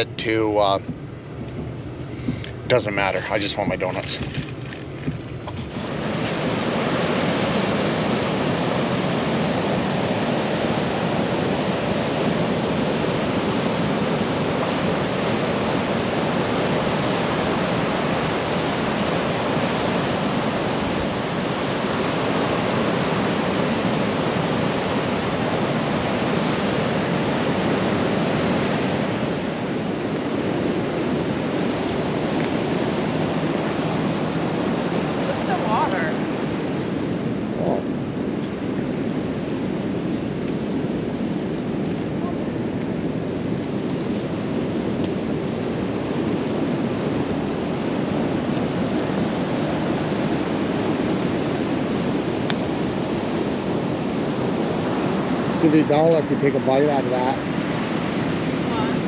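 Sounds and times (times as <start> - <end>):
heavy storm surf: 0.0 - 59.0.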